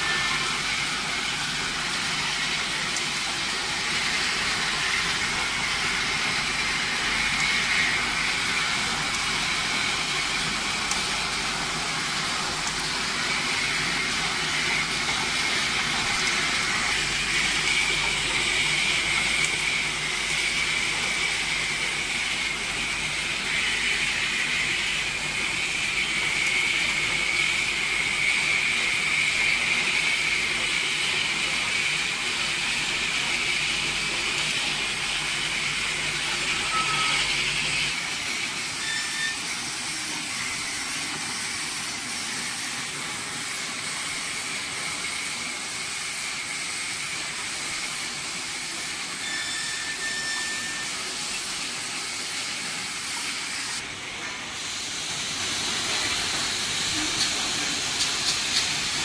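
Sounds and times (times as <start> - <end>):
filling machine whirring: 0.0 - 59.0.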